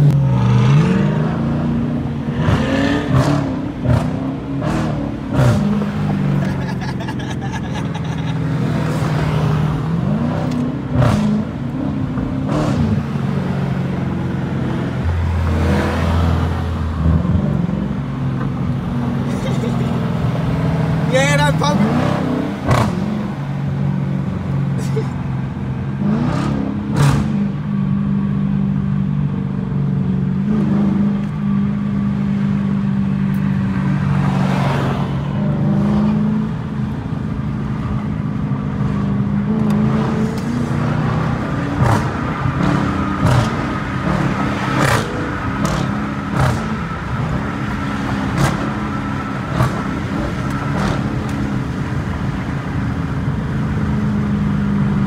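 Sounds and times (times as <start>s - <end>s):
car engine running steadily: 0.0s - 55.0s.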